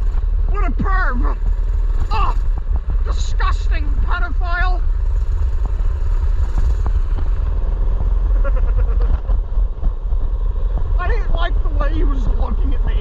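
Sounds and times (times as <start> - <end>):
mini bike engine running: 0.0 - 13.0.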